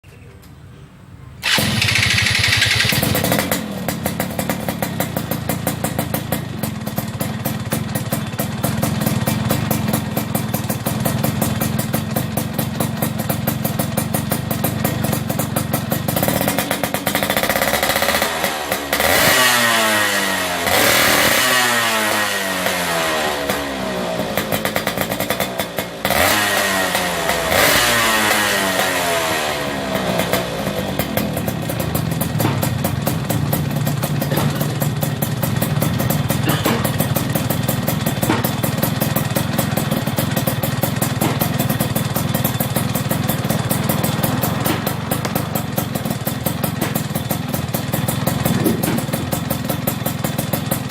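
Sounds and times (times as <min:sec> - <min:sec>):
two-stroke engine idling and revving: 0:01.4 - 0:50.9.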